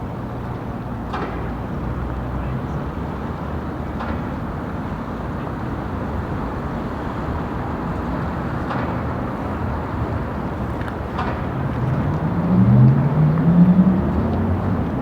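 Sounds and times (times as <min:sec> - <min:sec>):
distant traffic rumble: 0:01.0 - 0:15.0.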